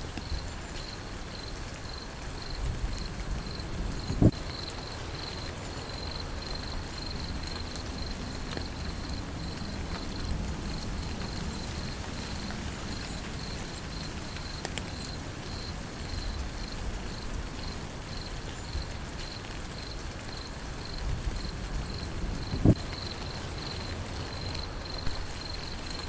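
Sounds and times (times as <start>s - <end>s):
steady rain: 0.0s - 26.0s
insect chirping trill: 0.2s - 26.0s.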